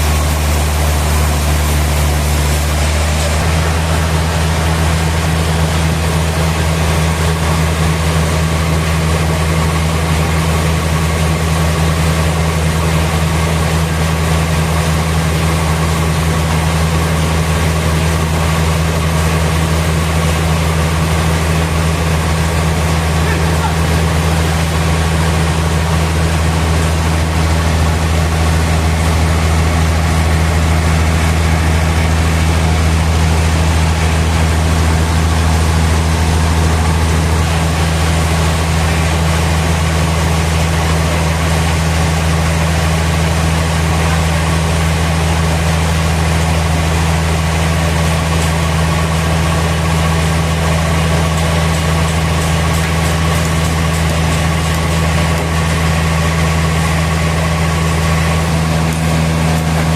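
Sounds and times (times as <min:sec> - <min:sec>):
sawmill machine drone: 0:00.0 - 0:59.9.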